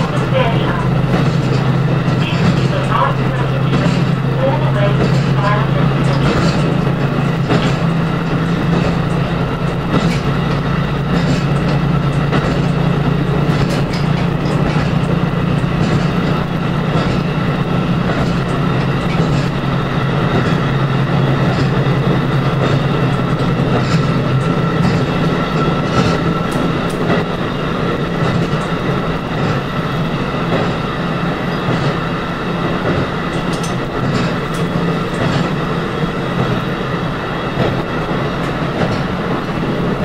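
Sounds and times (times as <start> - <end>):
train engine drone: 0.0 - 40.0
wheel click on rail: 0.0 - 40.0
wheels rumbling: 0.0 - 40.0.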